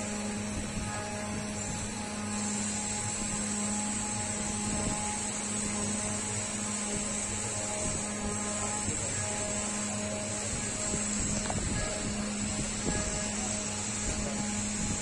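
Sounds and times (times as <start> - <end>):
machine humming with faint whine: 0.0 - 15.0.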